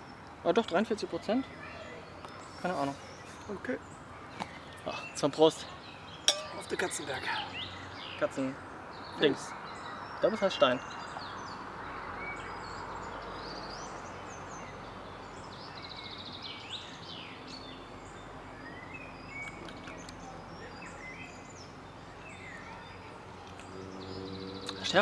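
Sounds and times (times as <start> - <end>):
songbirds singing and calling: 0.0 - 25.0.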